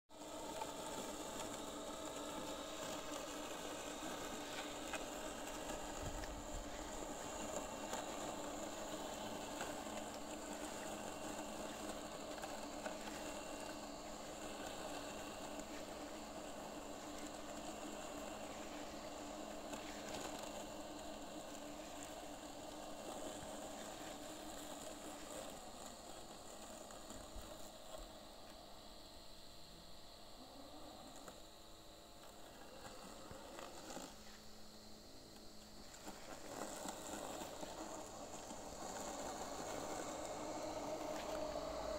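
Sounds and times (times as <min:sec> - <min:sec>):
robotic lawn mower whirring: 0:00.1 - 0:41.9.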